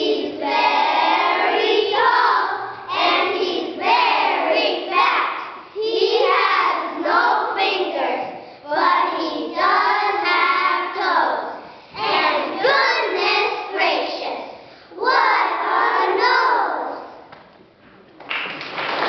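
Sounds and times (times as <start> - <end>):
children chanting in unison: 0.0 - 17.2.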